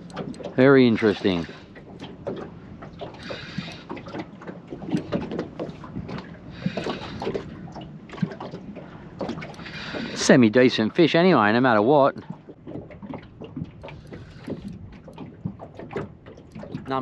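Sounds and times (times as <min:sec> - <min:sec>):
water lapping around boat: 0:00.0 - 0:17.0.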